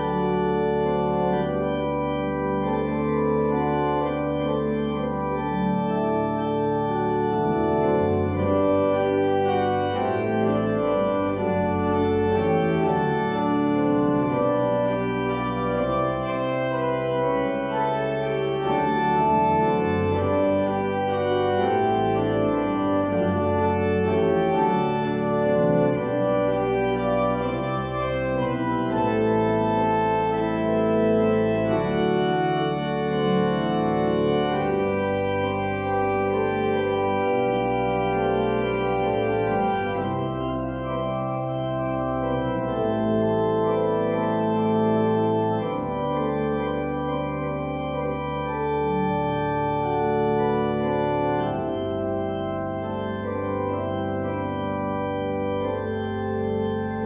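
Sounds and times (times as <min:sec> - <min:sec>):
organ playing chords: 0:00.0 - 0:57.0.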